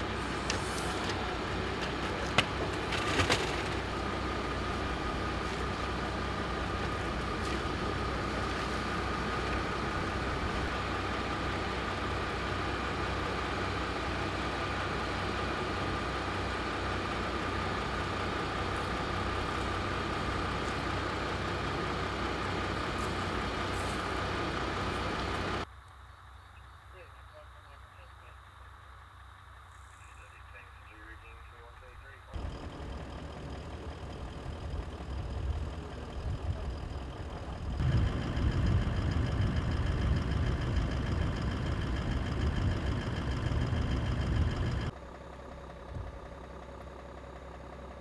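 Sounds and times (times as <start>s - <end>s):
truck engine idling: 0.0s - 48.0s.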